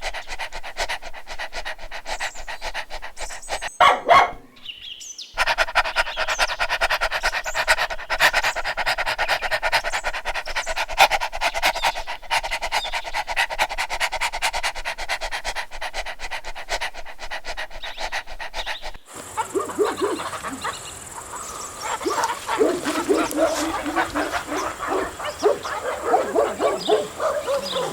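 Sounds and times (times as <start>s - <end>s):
dog panting: 0.0s - 4.4s, 5.4s - 27.9s.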